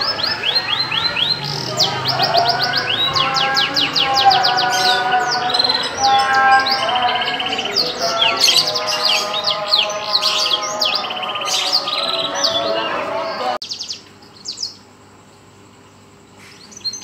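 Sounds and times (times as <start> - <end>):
canary singing: 0.0 - 14.9, 16.0 - 17.0.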